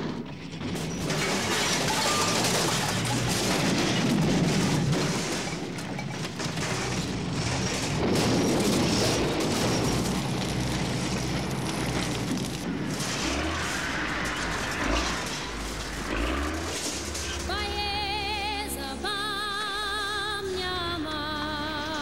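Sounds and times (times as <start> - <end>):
bulldozer demolishing metal shacks: 0.0 - 22.0.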